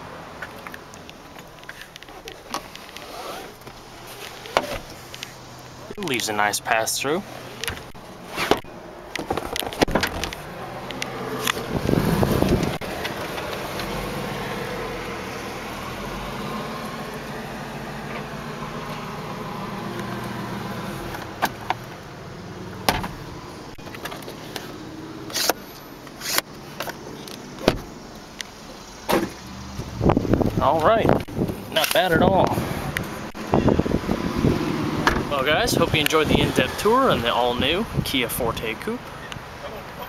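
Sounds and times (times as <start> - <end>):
car engine idling: 0.0 - 34.2.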